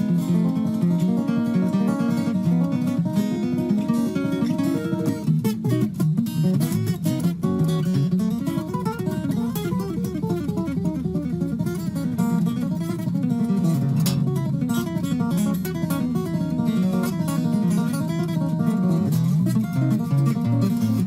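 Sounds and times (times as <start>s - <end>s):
strummed acoustic guitar music: 0.0s - 21.0s.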